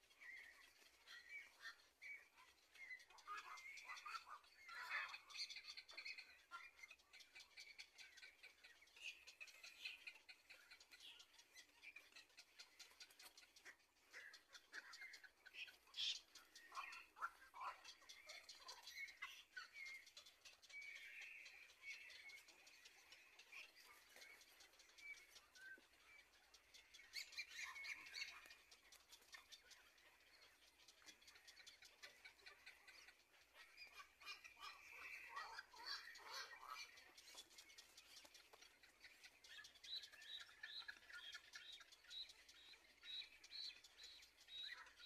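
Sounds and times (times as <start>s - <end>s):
faint bird chirps: 0.0s - 45.0s
fast faint ticking: 5.4s - 45.0s.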